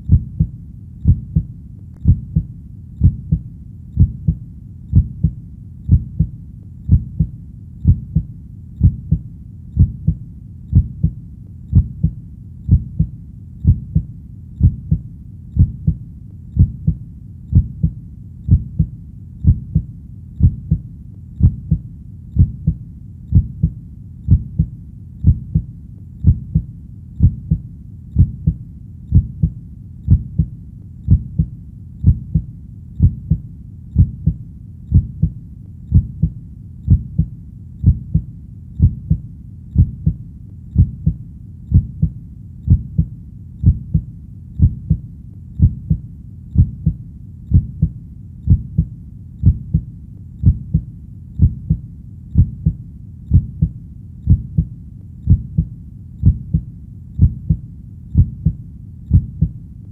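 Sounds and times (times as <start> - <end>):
heartbeat double thump: 0.0 - 3.4, 4.0 - 6.3, 6.9 - 9.2, 9.8 - 15.0, 15.6 - 16.0, 16.6 - 20.8, 21.4 - 21.8, 22.4 - 27.6, 28.2 - 30.5, 31.1 - 33.4, 34.0 - 39.2, 39.8 - 40.2, 40.8 - 45.0, 45.6 - 46.0, 46.6 - 47.9, 48.5 - 51.8, 52.4 - 54.7, 55.3 - 56.6, 57.2 - 57.6, 58.2 - 59.6
faint low hum: 0.0 - 59.9.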